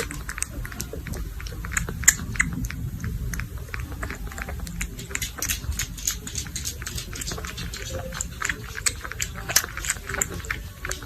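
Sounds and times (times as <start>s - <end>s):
animal chewing: 0.0s - 11.0s.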